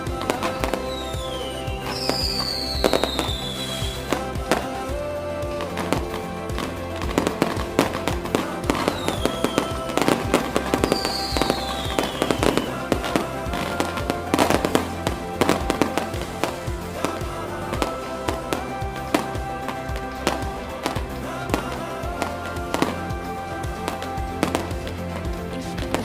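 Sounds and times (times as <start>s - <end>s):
background music with bass: 0.0s - 26.0s
fireworks bangs and crackles: 0.0s - 26.0s.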